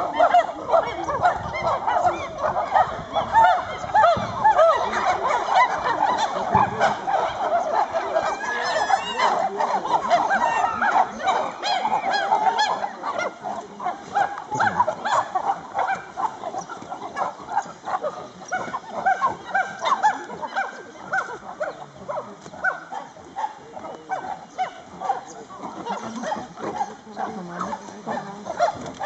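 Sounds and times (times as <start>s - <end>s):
chimpanzees hooting and grunting: 0.0s - 29.0s.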